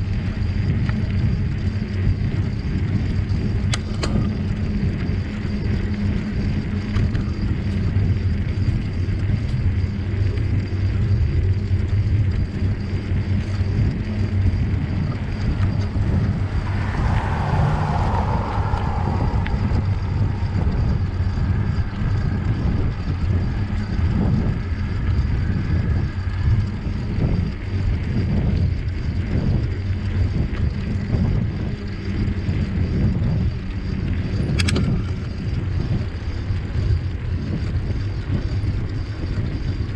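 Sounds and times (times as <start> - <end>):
low rumble of riding on trail: 0.0 - 39.9
wind on microphone: 0.0 - 39.9.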